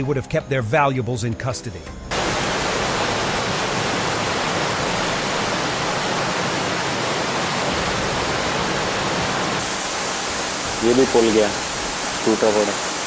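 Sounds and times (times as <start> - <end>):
floodwater rushing: 2.1 - 13.0.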